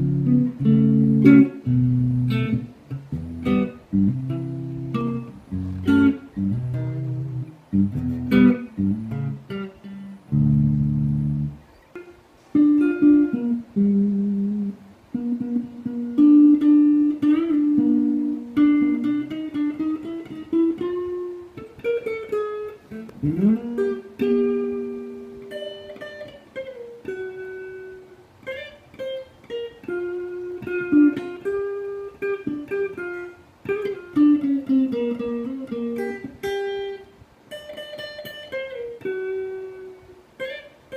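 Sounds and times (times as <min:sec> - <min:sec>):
electric guitar played fingerstyle: 0:00.0 - 0:40.9.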